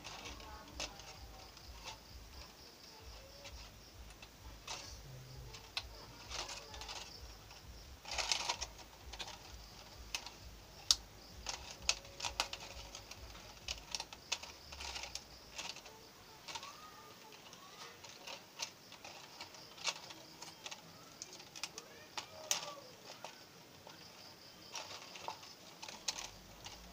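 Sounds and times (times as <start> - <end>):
scissors snipping plastic: 0.0 - 24.0
plastic crinkling: 0.0 - 26.9.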